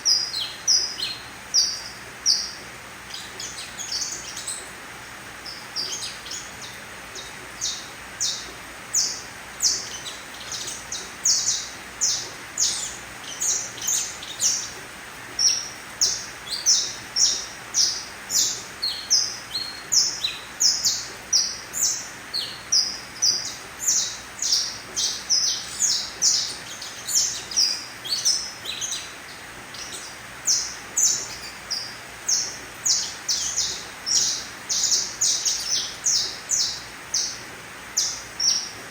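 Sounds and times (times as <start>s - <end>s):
young canary chirping: 5.4s - 14.8s, 15.4s - 37.4s.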